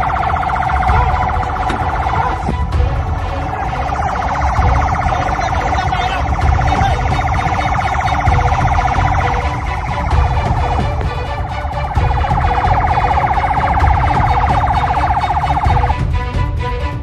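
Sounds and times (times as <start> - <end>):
boat siren fluttering: 0.0 - 16.1.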